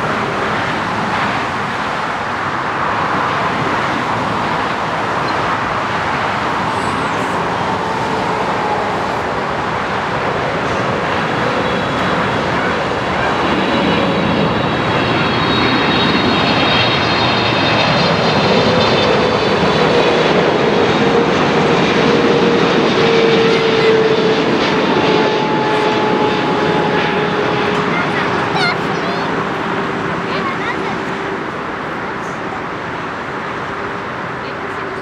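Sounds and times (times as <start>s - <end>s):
jet engines running loud: 0.0s - 35.0s
whining tones falling in pitch: 4.2s - 35.0s.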